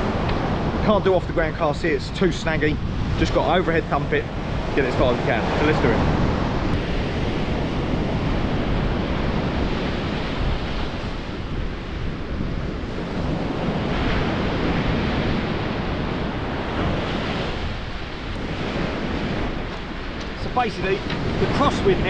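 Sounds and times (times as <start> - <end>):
surf breaking on stony beach: 0.0 - 22.0
wind buffeting microphone: 0.0 - 22.0.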